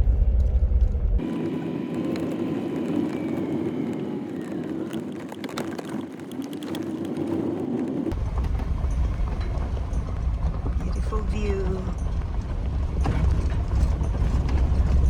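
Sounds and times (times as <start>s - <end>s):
engine running under load: 0.0s - 5.7s, 7.0s - 15.0s
tyres crunching on rock: 0.4s - 15.0s.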